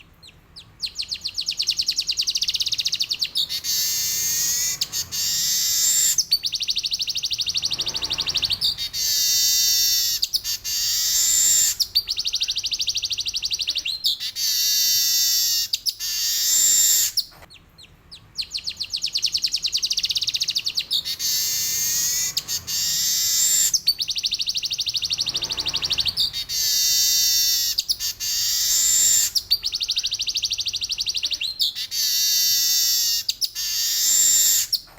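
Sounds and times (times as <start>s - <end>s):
bird singing buzzy trills: 0.0s - 34.9s.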